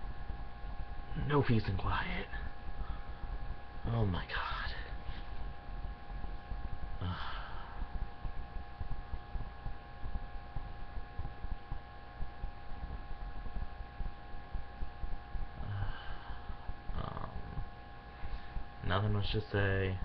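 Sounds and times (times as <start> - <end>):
low irregular rumbling: 0.0 - 19.2
steady hum of fixed tones: 0.0 - 20.0.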